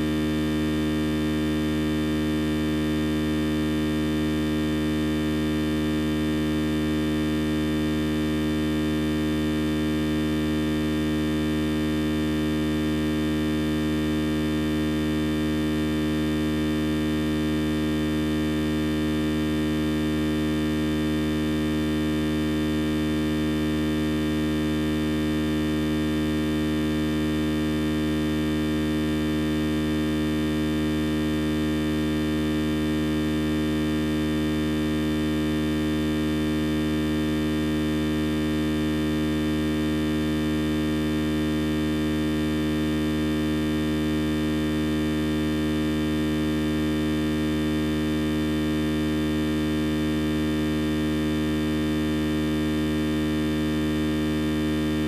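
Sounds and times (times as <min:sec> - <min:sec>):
electrical hum and buzz: 0:00.0 - 0:55.0.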